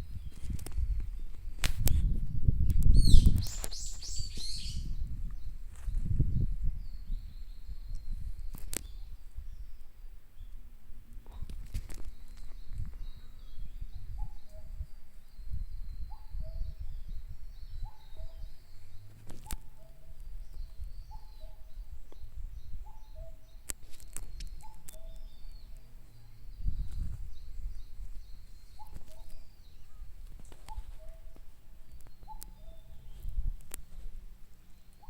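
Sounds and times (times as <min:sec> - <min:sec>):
bird warbling song: 0:00.0 - 0:05.6, 0:06.3 - 0:10.6, 0:11.4 - 0:33.9.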